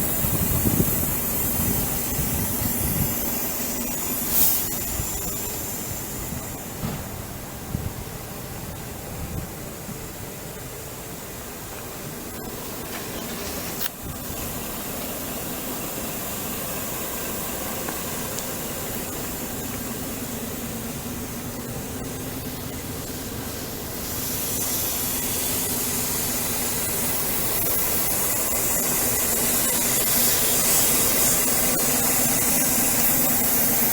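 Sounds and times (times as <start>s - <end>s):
strong hiss: 0.0s - 33.9s
truck diesel engine idling: 0.0s - 33.9s.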